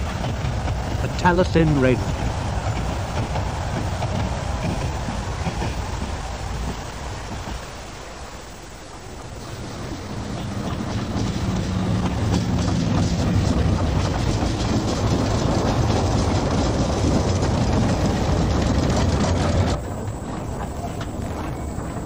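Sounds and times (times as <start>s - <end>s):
steam train rumbling past: 0.0s - 22.0s
train wheels clicking: 0.0s - 22.0s.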